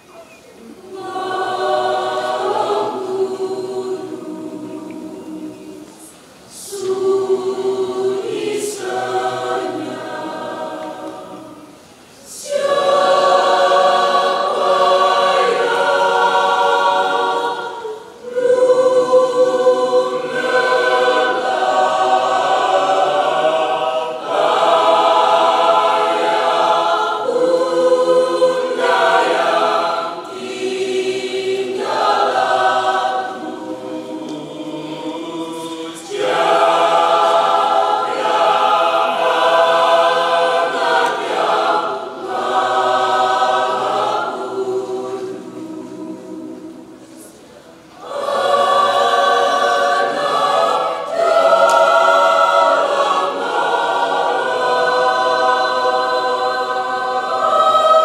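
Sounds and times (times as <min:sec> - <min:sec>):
mixed choir singing in parts: 0:00.0 - 0:58.0.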